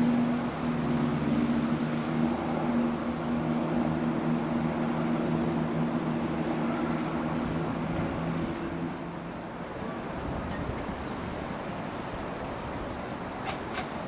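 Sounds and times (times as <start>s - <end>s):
diesel engines droning: 0.0s - 14.0s.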